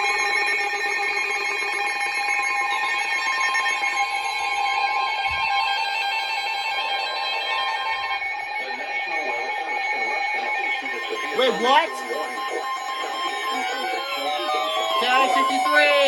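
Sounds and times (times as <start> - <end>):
steady electronic alarm tones: 0.0 - 16.0.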